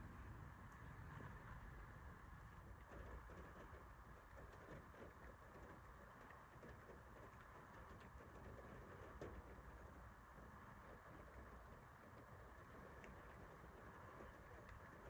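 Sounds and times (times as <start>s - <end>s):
light rain patter: 0.2s - 15.0s.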